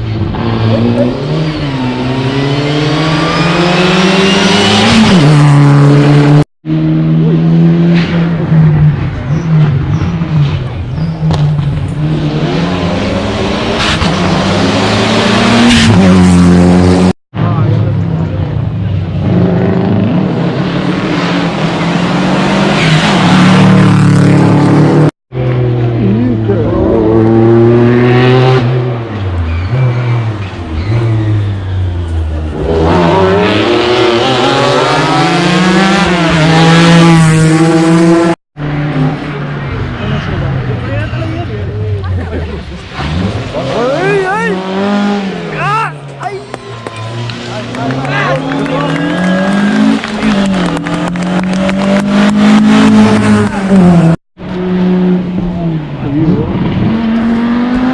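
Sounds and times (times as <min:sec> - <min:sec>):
rally car engine accelerating: 0:00.0 - 0:45.6, 0:46.9 - 0:57.9.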